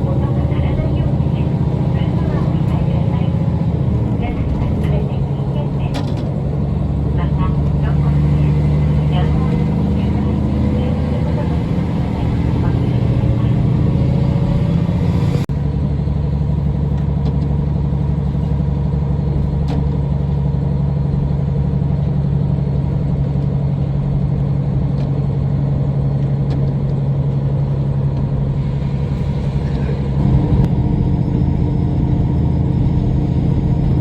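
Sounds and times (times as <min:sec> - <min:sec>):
diesel railcar engine drone: 0:00.0 - 0:34.0.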